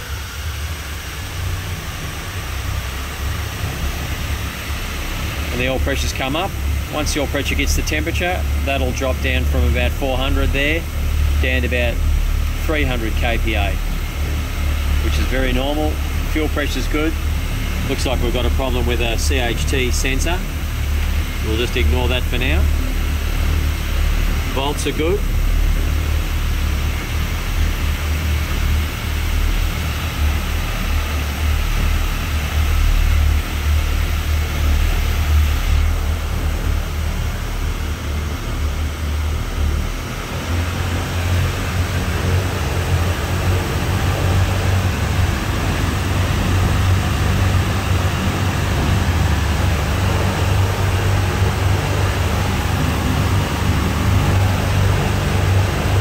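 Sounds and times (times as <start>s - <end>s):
radial aircraft engine droning: 0.0s - 56.0s.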